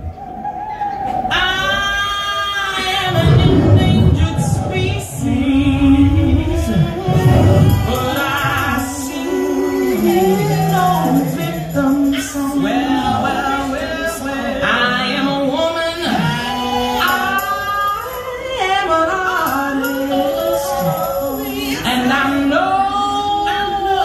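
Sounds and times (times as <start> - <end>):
layered singing over sound system: 0.0 - 24.0.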